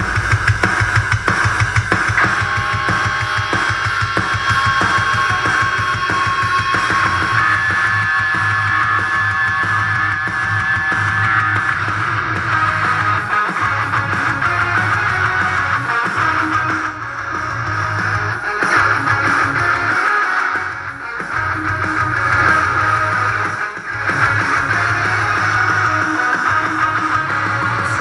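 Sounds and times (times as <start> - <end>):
rock music with pulsing bass: 0.0 - 28.0.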